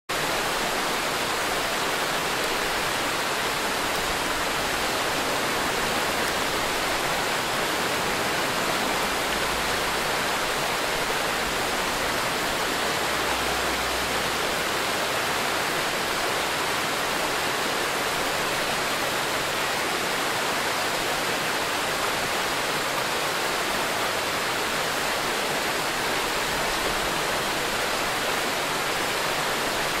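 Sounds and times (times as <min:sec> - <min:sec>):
waterfall rushing over boulders: 0:00.1 - 0:30.0.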